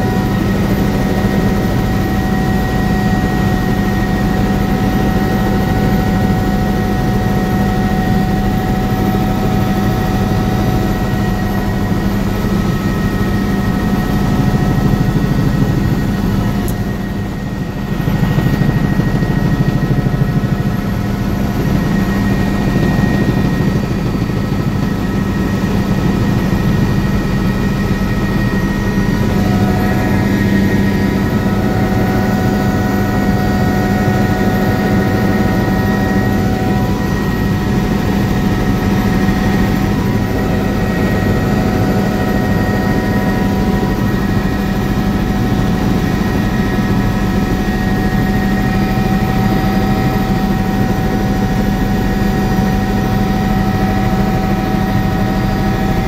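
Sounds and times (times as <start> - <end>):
helicopter cabin drone: 0.0 - 56.0.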